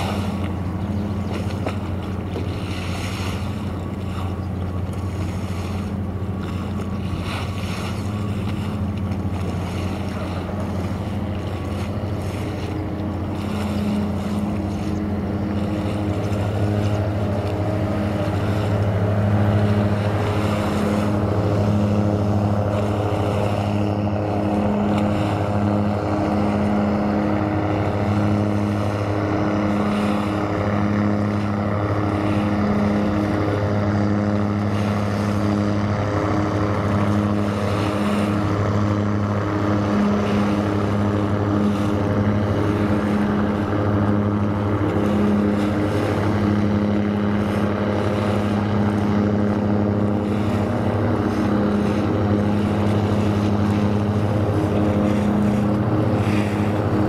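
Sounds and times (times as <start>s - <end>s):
ship engine droning: 0.0s - 57.0s.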